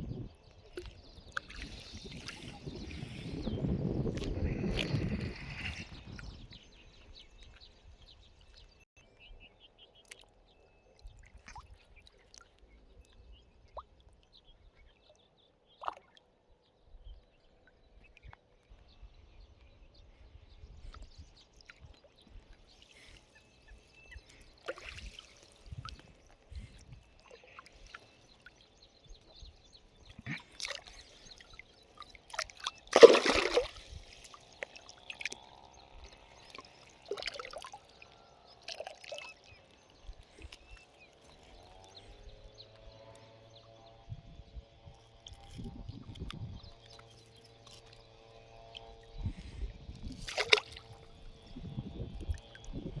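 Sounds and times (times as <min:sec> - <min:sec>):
water sloshing and trickling: 0:00.2 - 0:08.8, 0:09.8 - 0:18.7, 0:20.8 - 0:44.1, 0:44.7 - 0:53.0.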